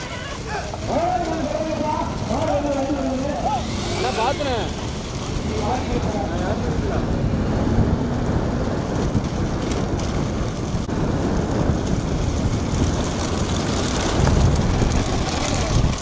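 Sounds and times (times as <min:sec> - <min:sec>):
vehicle road noise: 0:00.0 - 0:16.0
wind buffeting microphone: 0:00.0 - 0:16.0.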